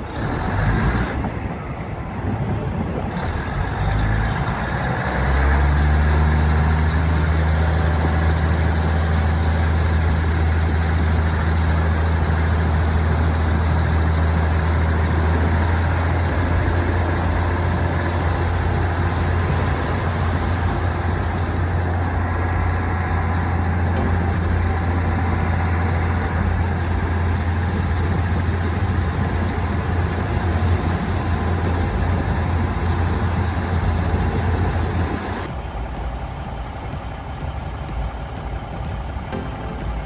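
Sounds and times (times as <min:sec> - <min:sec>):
diesel train engine rumbling: 0:00.0 - 0:40.0.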